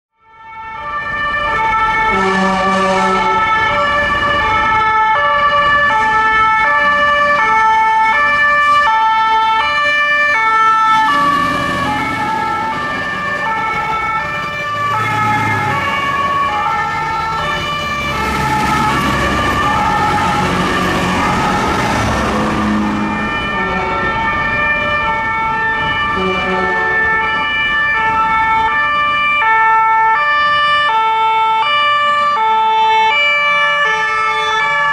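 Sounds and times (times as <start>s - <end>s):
fire engine two-tone sirens: 0.1s - 34.9s
truck engine and road noise: 0.2s - 34.9s.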